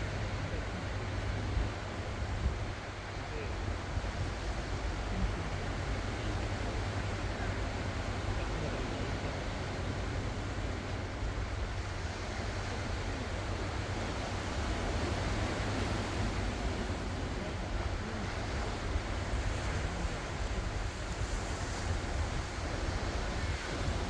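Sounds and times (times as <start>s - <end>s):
ocean waves washing onto shore: 0.0s - 24.0s
wind buffeting microphone: 0.0s - 24.0s.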